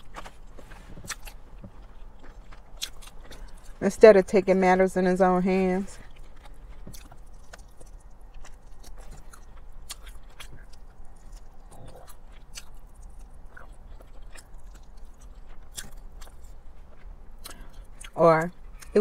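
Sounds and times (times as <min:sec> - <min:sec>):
crispy chicken crunching: 0:00.0 - 0:04.0, 0:06.0 - 0:19.0.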